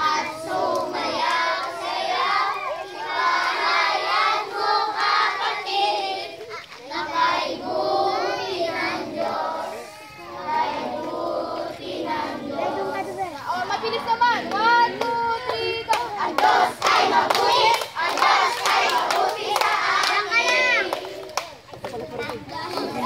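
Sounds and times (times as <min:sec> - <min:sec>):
children singing: 0:00.0 - 0:21.3.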